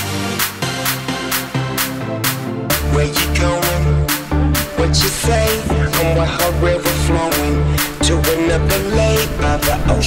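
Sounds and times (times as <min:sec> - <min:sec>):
deep bass line: 0:00.0 - 0:10.0
hip hop song: 0:00.0 - 0:10.0.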